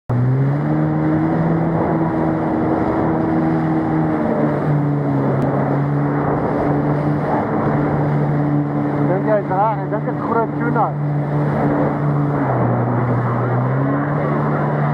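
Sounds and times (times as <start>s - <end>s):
jet ski engine running: 0.1s - 14.9s
water rushing and spraying: 0.1s - 14.9s.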